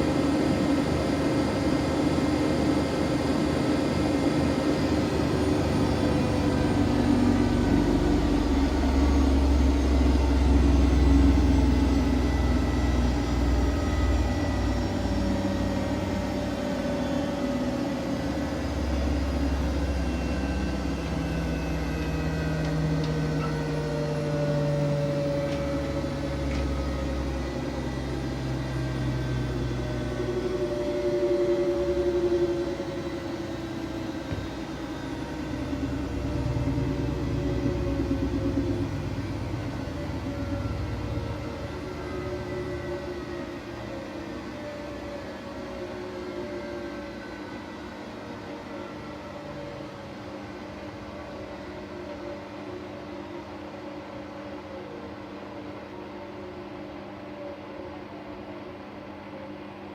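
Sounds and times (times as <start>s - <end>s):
washing machine motor hum: 0.0s - 56.6s.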